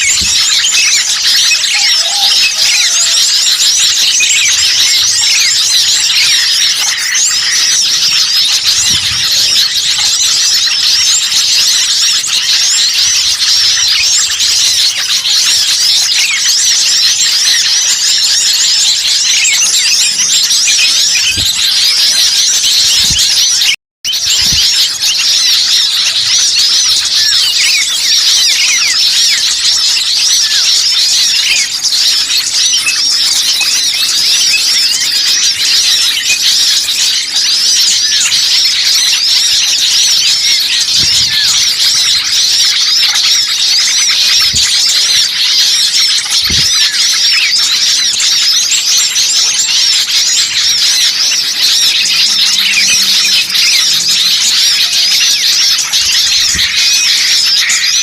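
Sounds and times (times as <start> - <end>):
small songbirds chattering: 0.0 - 58.0.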